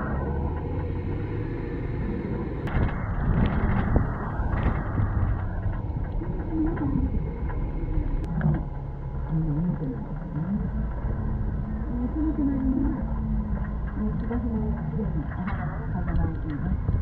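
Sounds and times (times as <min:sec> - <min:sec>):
bus engine rumble: 0:00.0 - 0:17.0
wind buffeting microphone: 0:00.0 - 0:17.0.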